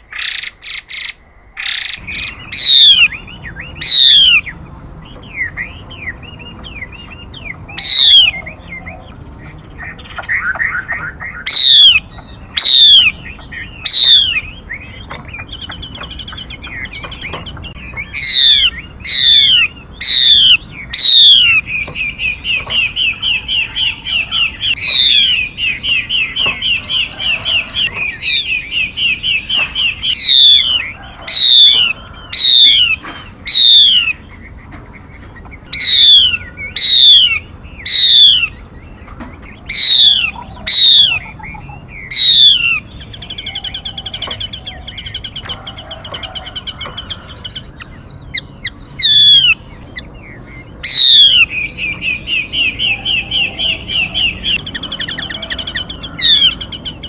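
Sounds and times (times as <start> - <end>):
bird chattering run: 0.2 - 57.0.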